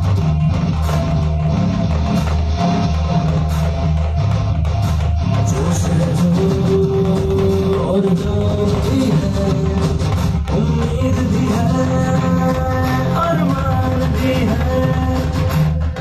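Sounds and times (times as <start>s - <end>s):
loud bass-heavy music: 0.0s - 16.0s.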